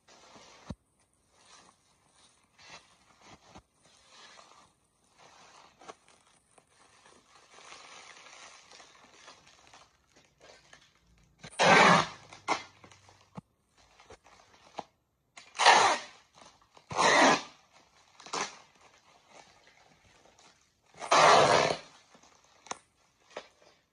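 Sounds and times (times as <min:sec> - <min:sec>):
bubble wrap crinkling: 0:00.0 - 0:11.4, 0:16.1 - 0:23.9.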